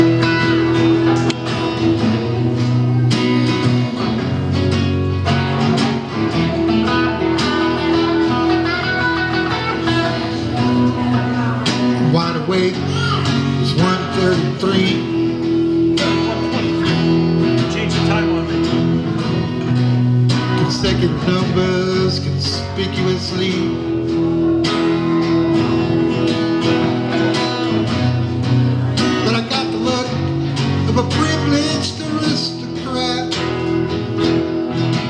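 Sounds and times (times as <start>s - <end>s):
guitar: 0.0s - 35.0s
live band playing: 0.0s - 35.0s.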